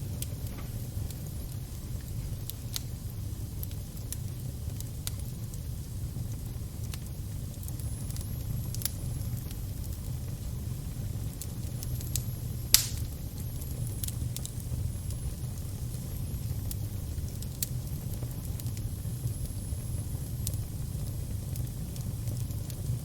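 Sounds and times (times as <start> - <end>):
fire crackling: 0.0 - 23.0
fire snaps and pops: 0.0 - 23.0
low steady rumble: 0.0 - 23.0.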